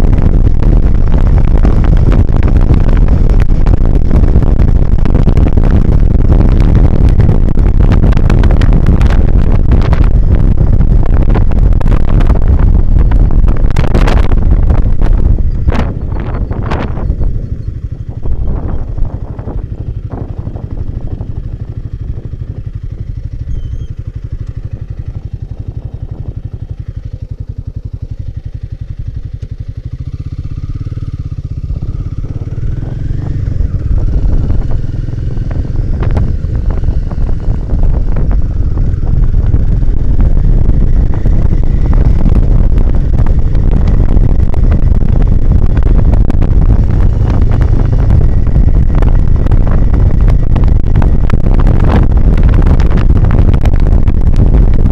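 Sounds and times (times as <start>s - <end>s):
motorcycle engine running: 0.0s - 54.9s
wind rushing over microphone: 0.0s - 54.9s.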